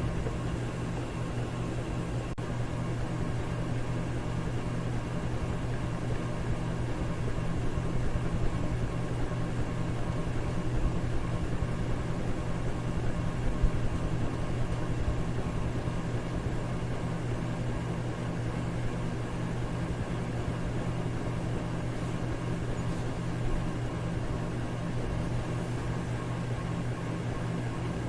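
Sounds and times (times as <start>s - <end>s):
electric fan whooshing: 0.0s - 28.0s
low motor hum: 0.0s - 28.0s.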